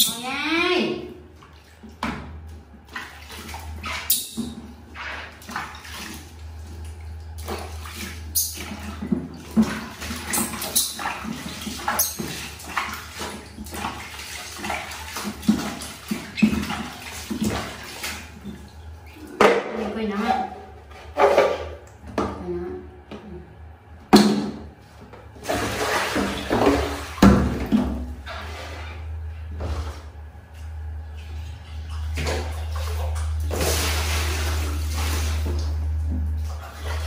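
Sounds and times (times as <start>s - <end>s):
water splashing in plastic tub: 0.0s - 22.4s, 24.1s - 37.0s.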